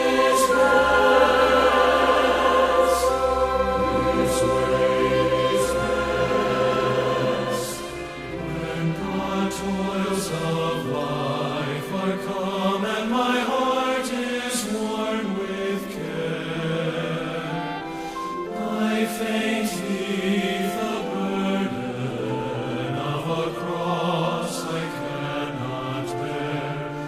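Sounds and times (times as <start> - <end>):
slow song sung by several voices: 0.0 - 27.0.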